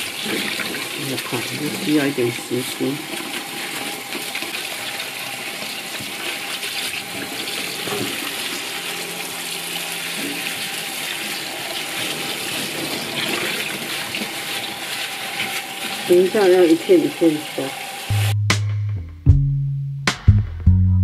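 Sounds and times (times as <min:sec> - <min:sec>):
tap water running into a bowl: 0:00.0 - 0:18.1
hand rinsing leaves: 0:00.0 - 0:18.3.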